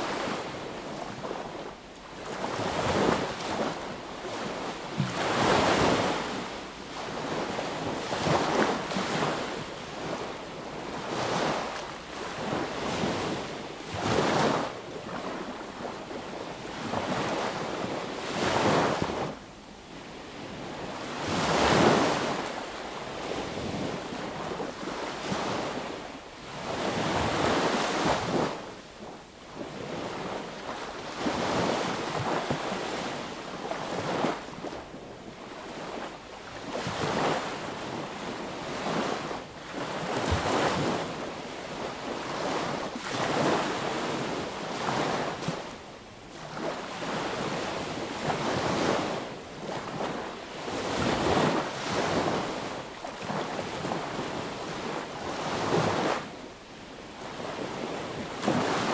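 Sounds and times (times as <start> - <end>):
small waves washing on beach: 0.0 - 58.9.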